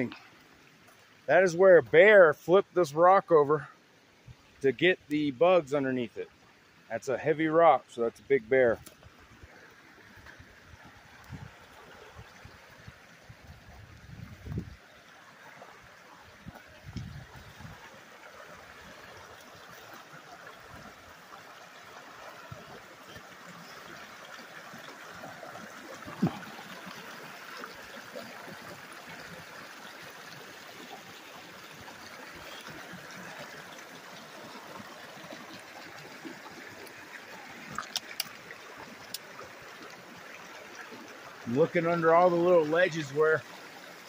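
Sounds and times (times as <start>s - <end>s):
creek running over rocks: 0.0s - 44.0s.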